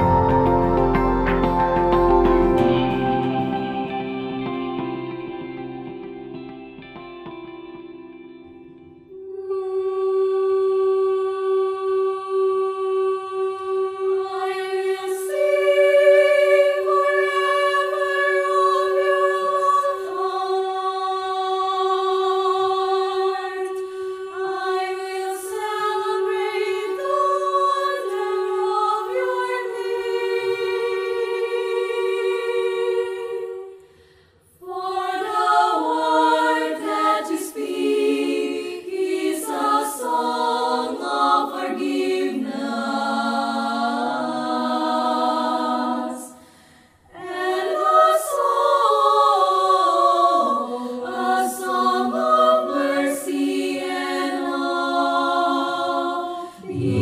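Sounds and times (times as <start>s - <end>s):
mixed choir singing a cappella: 0.0s - 4.5s, 9.0s - 57.0s.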